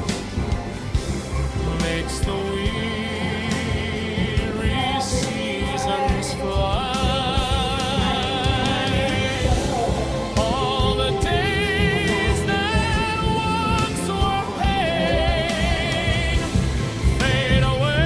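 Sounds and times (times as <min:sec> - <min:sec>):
backing music with steady beat: 0:00.0 - 0:18.0
person singing with vibrato: 0:01.2 - 0:18.0.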